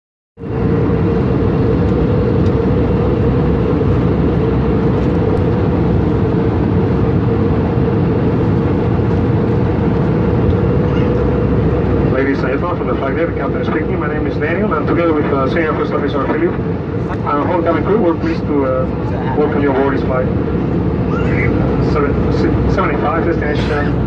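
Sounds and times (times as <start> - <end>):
airliner engines and airflow rush: 0.4 - 24.0
steady drone: 0.4 - 24.0.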